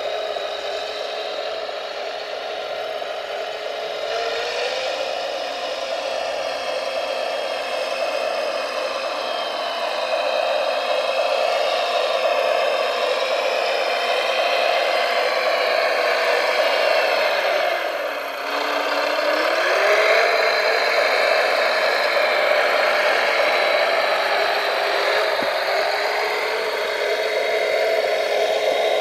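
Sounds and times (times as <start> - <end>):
motor whining: 0.0 - 29.0.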